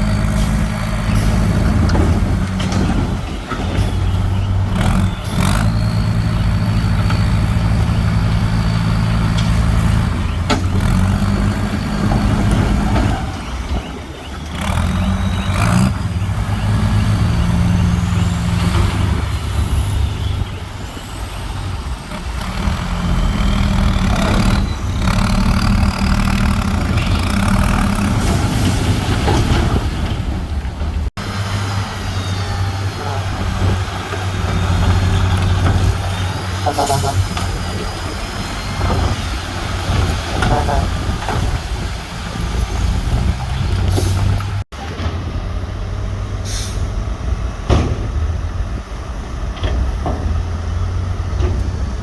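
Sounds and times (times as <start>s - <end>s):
heavy diesel machinery running: 0.0s - 52.0s.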